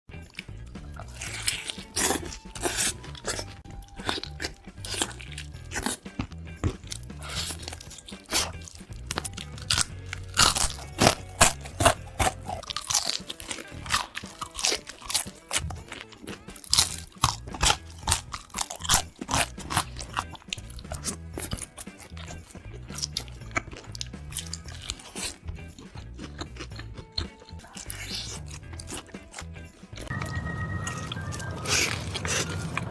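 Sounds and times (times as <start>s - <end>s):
background music with bass line: 0.1s - 32.9s
crunchy food chewing: 0.1s - 32.9s.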